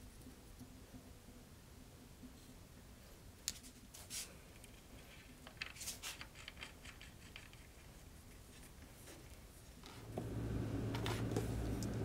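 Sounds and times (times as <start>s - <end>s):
light clicks and scratches: 2.2s - 12.0s.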